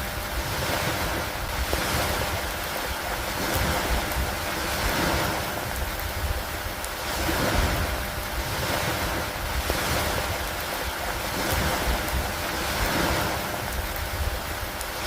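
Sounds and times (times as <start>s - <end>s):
low wind rumble: 0.0s - 15.0s
rain hissing: 0.0s - 15.0s.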